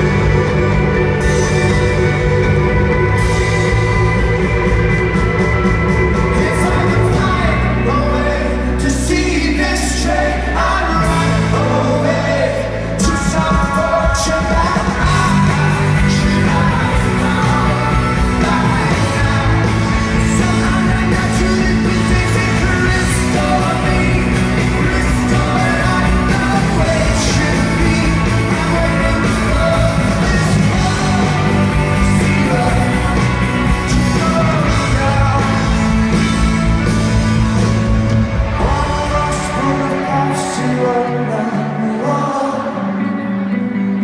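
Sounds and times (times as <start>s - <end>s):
lead singer singing: 0.0s - 44.0s
rock band playing live: 0.0s - 44.0s.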